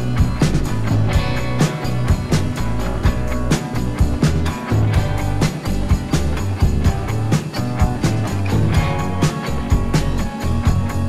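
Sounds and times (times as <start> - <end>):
deep bass line: 0.0 - 11.0
rock music: 0.0 - 11.0
steady drum beat: 0.0 - 11.0.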